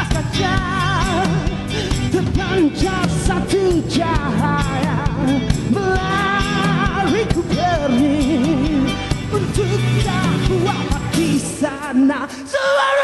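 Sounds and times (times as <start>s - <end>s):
rock band playing: 0.0s - 12.1s
person singing: 0.0s - 13.0s
melody with strong vibrato: 0.1s - 11.8s.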